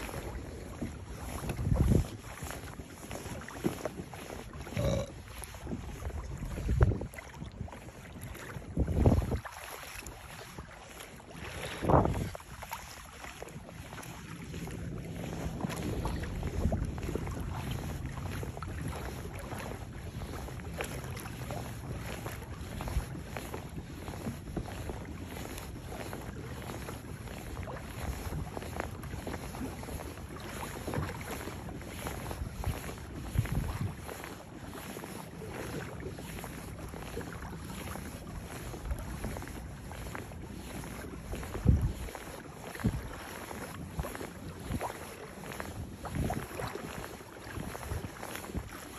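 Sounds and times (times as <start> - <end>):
waves slapping plastic kayak hull: 0.0 - 48.9
wind rumbling on microphone: 0.0 - 48.9.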